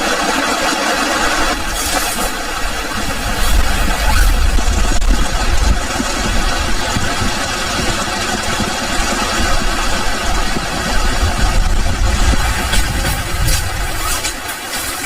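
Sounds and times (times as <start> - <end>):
heavy rain hissing: 1.5 - 15.0
wind buffeting microphone: 1.6 - 14.8.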